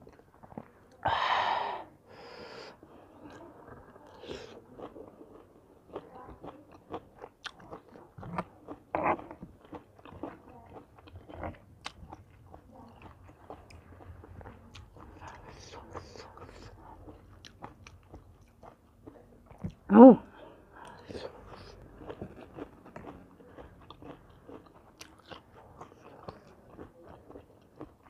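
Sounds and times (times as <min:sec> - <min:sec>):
chewing and biting food: 0:00.0 - 0:01.0, 0:03.2 - 0:28.0.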